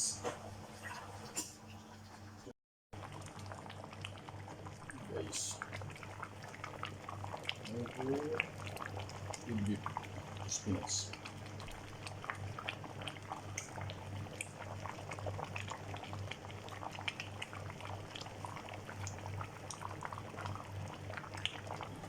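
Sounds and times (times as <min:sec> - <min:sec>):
low steady hum: 0:00.0 - 0:22.0
stew bubbling in a pot: 0:00.5 - 0:22.0.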